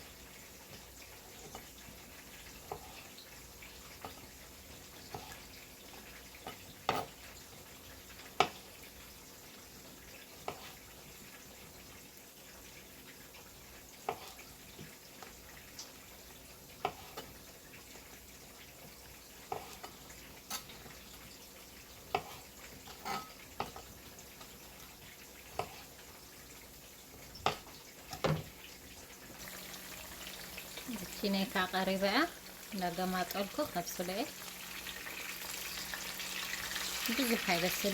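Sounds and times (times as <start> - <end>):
food sizzling in a pan: 0.0 - 37.9.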